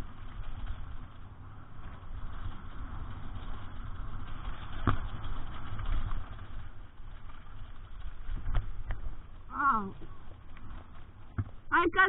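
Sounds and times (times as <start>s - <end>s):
bike tyres rolling over ground: 0.0s - 12.0s.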